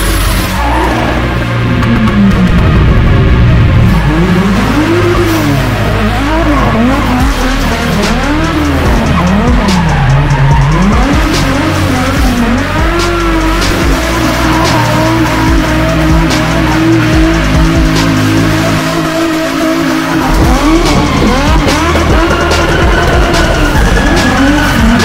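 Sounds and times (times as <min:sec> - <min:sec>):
car engine revving: 0:00.0 - 0:25.0
music: 0:00.0 - 0:25.0
tyres squealing: 0:04.0 - 0:25.0.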